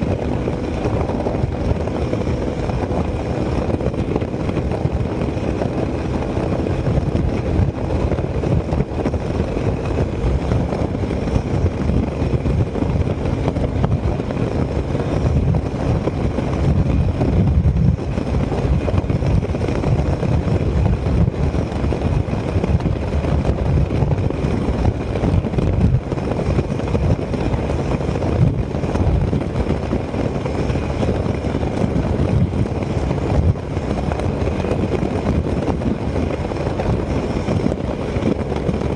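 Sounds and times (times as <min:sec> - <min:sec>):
scooter engine drone: 0:00.0 - 0:38.9
wind buffeting microphone: 0:00.0 - 0:38.9.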